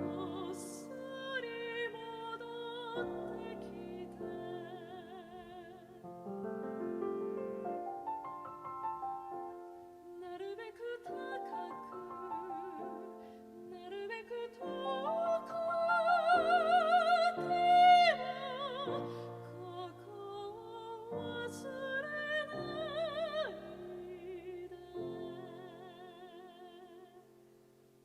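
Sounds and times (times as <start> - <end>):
piano accompaniment: 0.0 - 27.4
soprano singing: 0.0 - 27.6.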